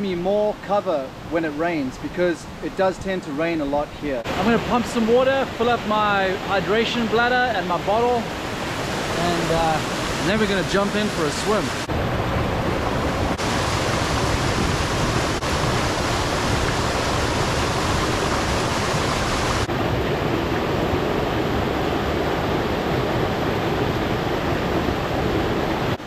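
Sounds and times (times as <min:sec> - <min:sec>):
stream rushing over boulders: 0:03.5 - 0:26.0.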